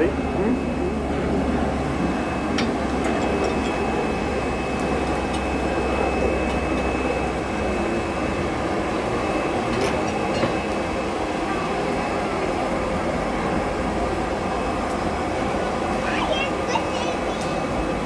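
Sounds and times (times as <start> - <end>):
forge air blowing: 0.0 - 16.4.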